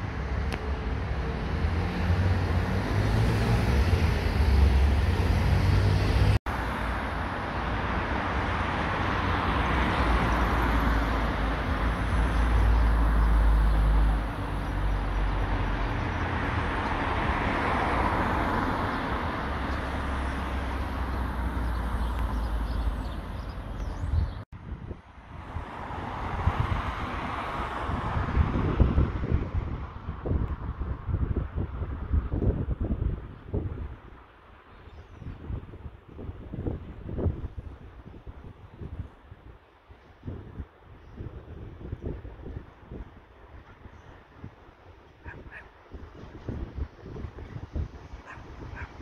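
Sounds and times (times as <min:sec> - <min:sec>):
road traffic noise: 0:00.0 - 0:49.0
wind rumble on microphone: 0:00.0 - 0:49.0.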